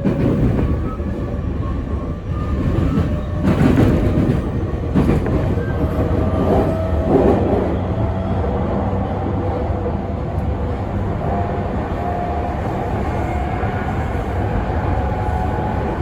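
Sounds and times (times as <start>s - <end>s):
train car low rumble: 0.0s - 16.0s
wheels rushing on rails: 0.0s - 16.0s.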